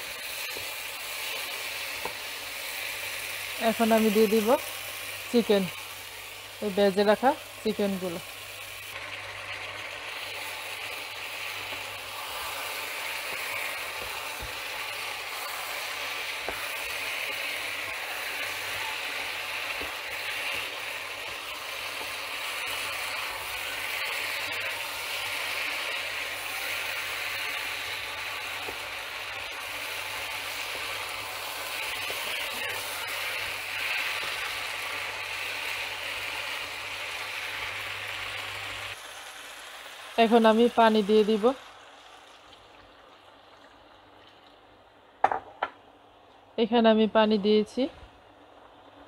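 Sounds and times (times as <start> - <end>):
food sizzling in a frying pan: 0.0 - 44.2.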